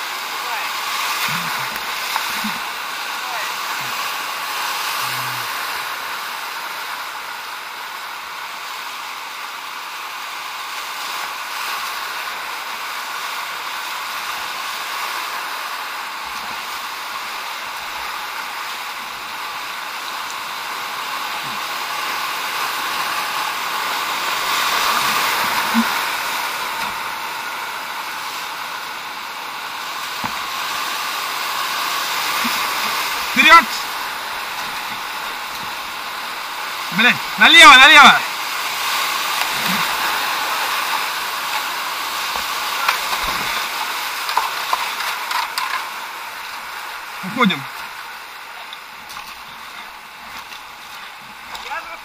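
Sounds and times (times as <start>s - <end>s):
whitewater rushing: 0.0s - 52.0s.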